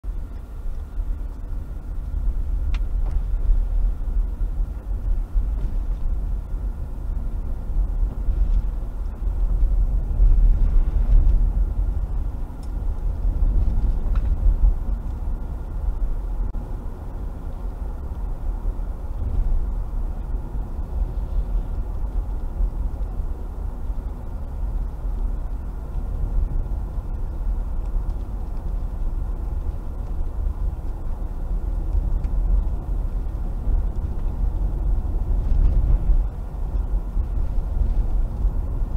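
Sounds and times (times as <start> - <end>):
tyres and engine rumble: 0.0 - 38.9.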